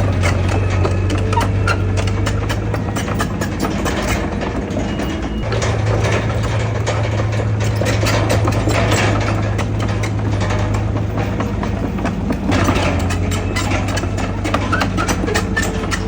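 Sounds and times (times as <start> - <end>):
heavy diesel engine running: 0.0 - 16.0
rapid metallic clicks: 0.0 - 16.0.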